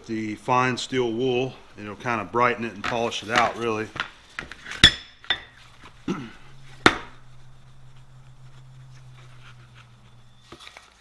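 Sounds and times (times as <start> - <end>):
steel wool scrubbing metal: 0.0 - 10.6
low steady hum: 0.0 - 11.0.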